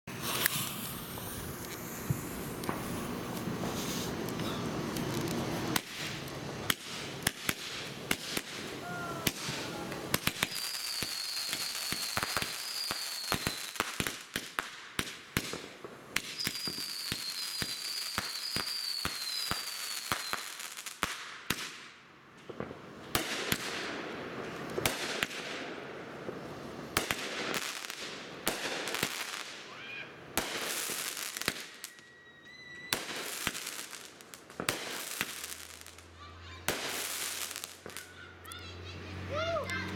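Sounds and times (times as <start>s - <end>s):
firework launch pops and bursts: 0.1s - 29.6s, 30.3s - 32.0s, 32.9s - 38.1s.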